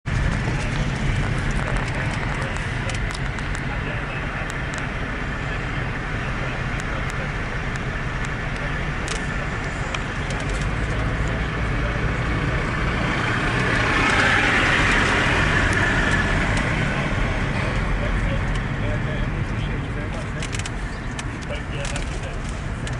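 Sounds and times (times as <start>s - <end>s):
low engine hum: 0.0s - 22.9s
road traffic noise: 0.0s - 22.9s.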